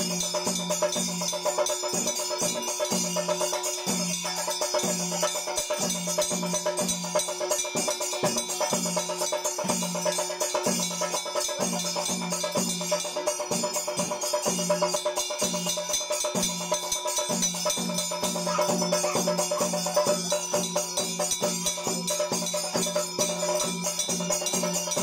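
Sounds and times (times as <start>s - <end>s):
bells ringing: 0.0s - 25.0s
cymbals jangling: 0.0s - 25.0s
drum beat: 0.0s - 25.0s.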